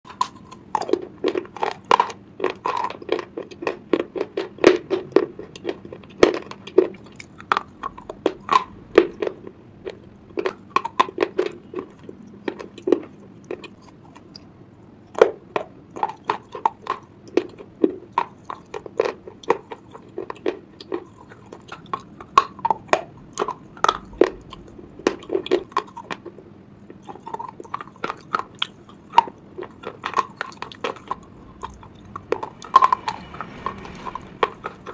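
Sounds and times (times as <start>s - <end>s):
pencils being crunched by teeth: 0.1s - 14.2s, 15.2s - 34.9s.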